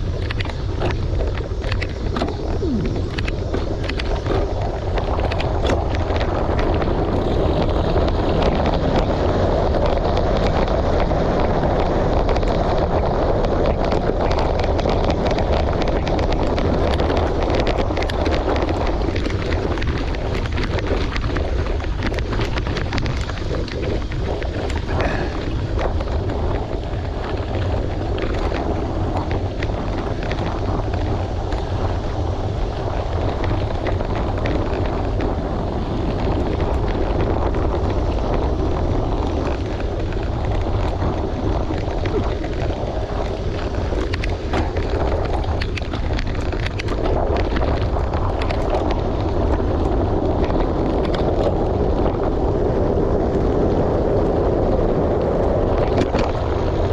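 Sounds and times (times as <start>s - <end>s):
small clicks and rattles: 0.0s - 52.6s, 53.4s - 56.9s
wind buffeting microphone: 0.0s - 56.9s.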